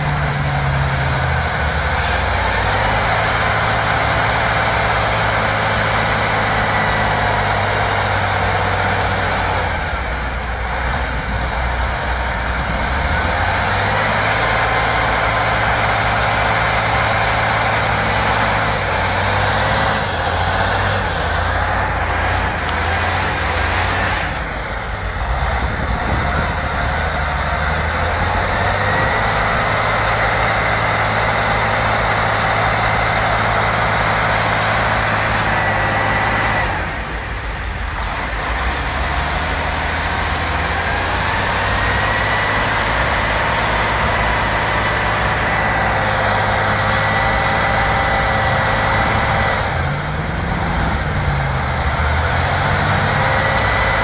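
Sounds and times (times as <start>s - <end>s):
heavy truck engine running: 0.0s - 54.0s
high engine whine: 0.0s - 54.0s.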